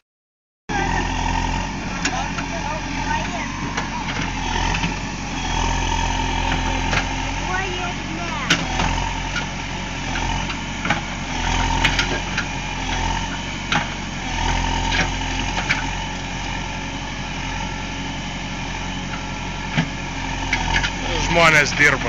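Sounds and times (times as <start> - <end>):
diesel engine running: 0.7 - 22.0.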